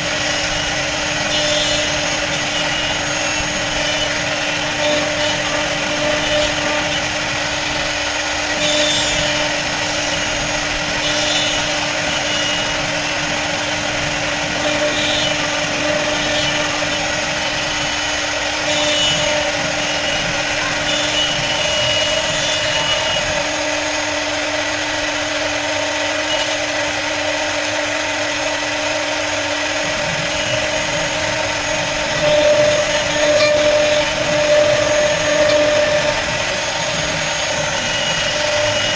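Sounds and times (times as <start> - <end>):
high hissing cutting noise: 0.0 - 38.9
router spindle whine: 0.0 - 38.9.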